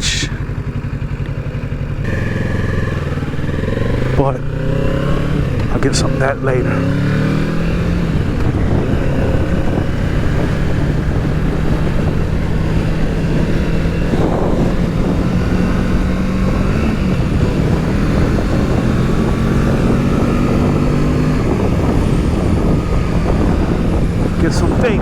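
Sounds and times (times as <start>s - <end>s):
motorcycle engine running: 0.0s - 25.0s
wind rush: 2.3s - 25.0s.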